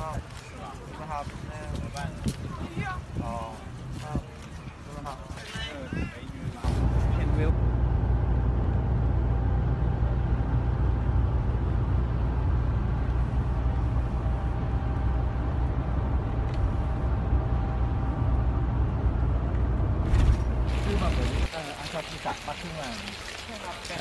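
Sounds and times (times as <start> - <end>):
coach engine and road rumble: 0.0 - 24.0.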